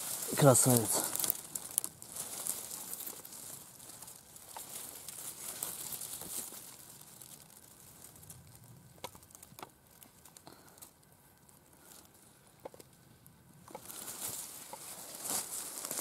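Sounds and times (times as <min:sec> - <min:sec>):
dry leaves rustling and crackling: 0:00.0 - 0:16.0.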